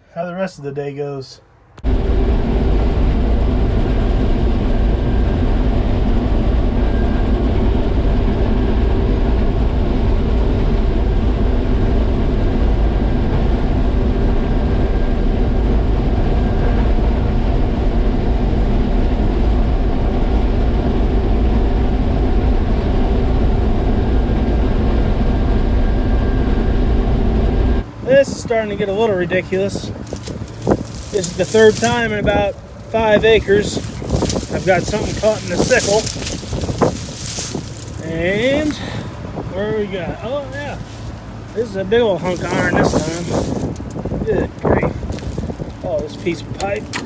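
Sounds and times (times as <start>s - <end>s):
combine engine drone: 1.8s - 47.0s
threshing machinery rumble: 1.8s - 47.0s.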